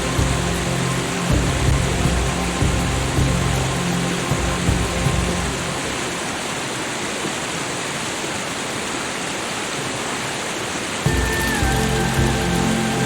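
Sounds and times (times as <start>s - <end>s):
falling water hissing: 0.0s - 13.0s.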